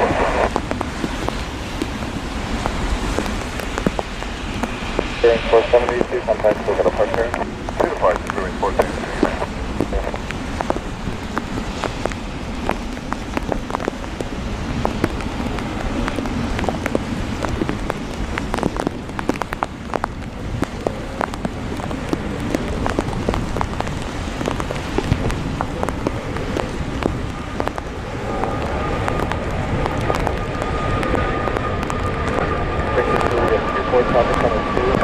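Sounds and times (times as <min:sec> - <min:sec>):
heavy rain falling: 0:00.0 - 0:35.0
low rumble: 0:00.0 - 0:35.0
raindrops ticking close by: 0:00.0 - 0:35.0.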